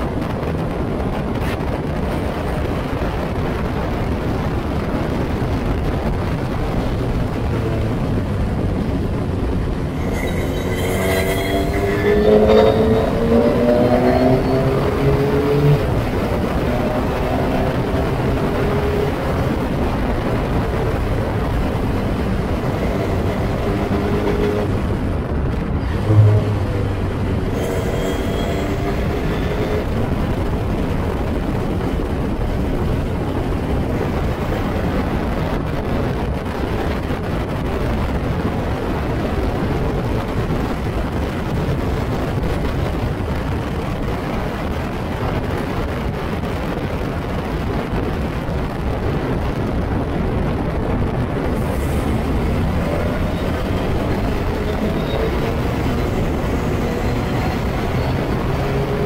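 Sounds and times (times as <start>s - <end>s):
faint race car engine: 0.0s - 59.0s
wind buffeting microphone: 0.0s - 59.0s.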